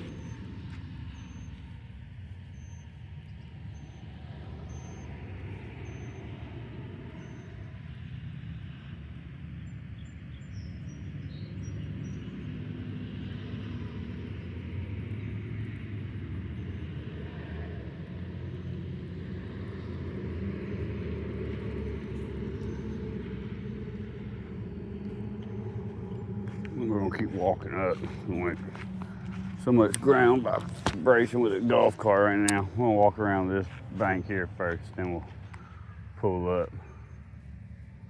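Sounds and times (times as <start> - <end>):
golf cart running: 0.0 - 2.8, 3.4 - 38.0.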